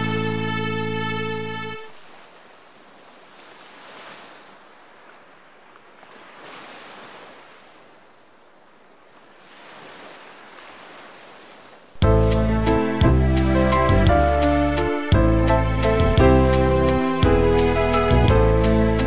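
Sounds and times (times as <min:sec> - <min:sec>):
water rushing past hull: 0:00.0 - 0:19.0.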